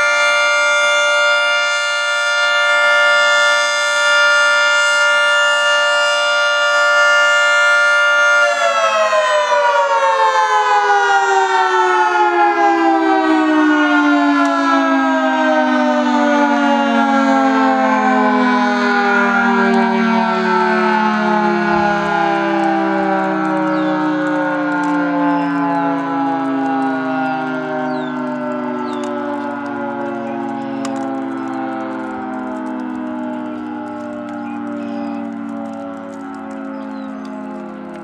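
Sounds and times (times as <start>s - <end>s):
siren alert chord: 0.0s - 38.0s.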